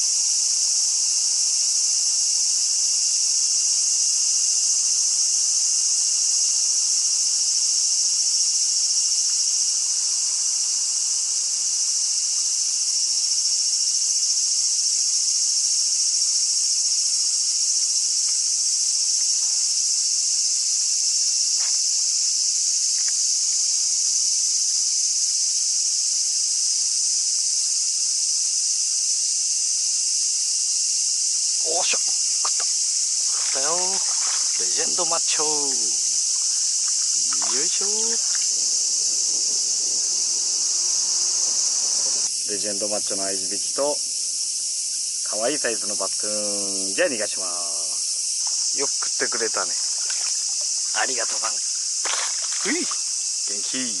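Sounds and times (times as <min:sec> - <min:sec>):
cicadas singing: 0:00.0 - 0:54.0.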